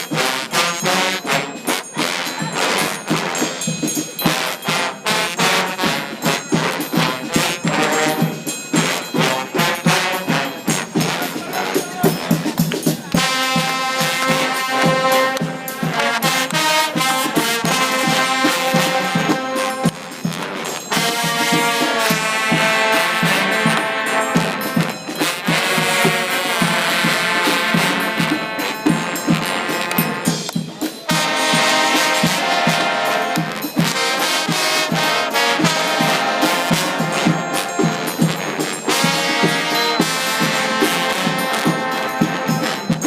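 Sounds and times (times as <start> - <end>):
drumming: 0.0 - 43.0
trombones playing brass chords: 0.0 - 43.0.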